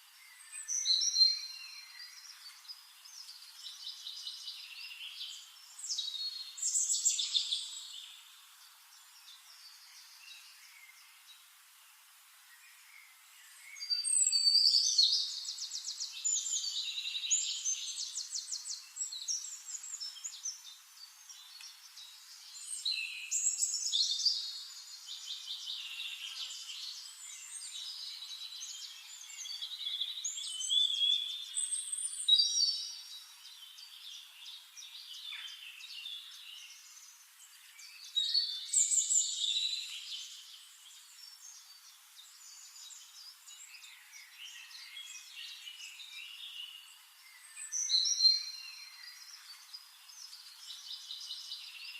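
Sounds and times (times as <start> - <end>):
songbird trills and chirps: 0.0 - 51.9.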